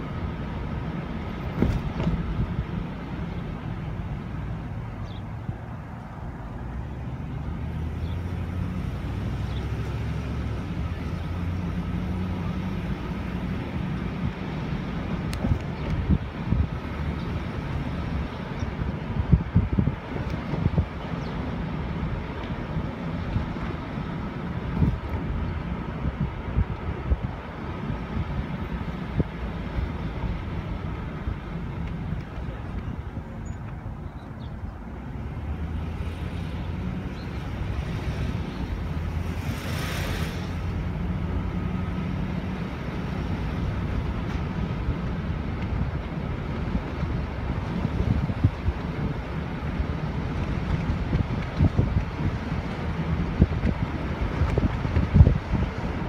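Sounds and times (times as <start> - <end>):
car engine and road rumble: 0.0 - 56.0
vehicle driving slowly: 0.0 - 56.0
wind buffeting microphone: 1.2 - 56.0.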